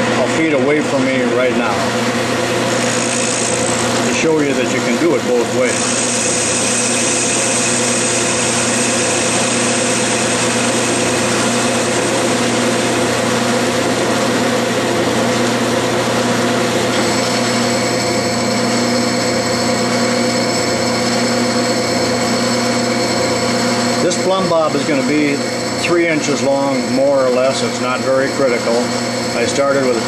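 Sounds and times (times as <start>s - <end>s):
lathe machine whine: 0.0s - 30.0s.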